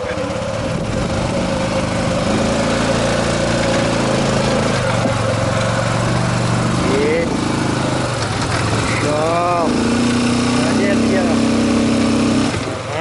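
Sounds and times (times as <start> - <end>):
quad bike engine under load: 0.0 - 13.0.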